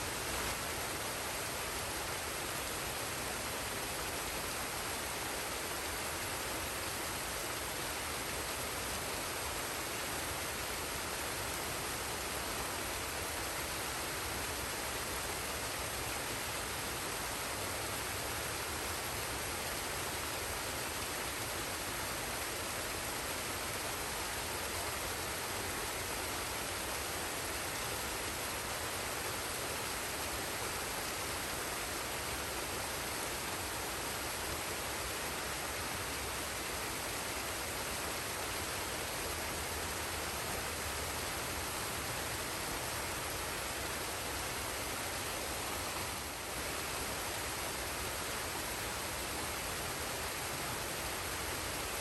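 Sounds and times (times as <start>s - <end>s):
waterfall and stream rushing: 0.0s - 52.0s.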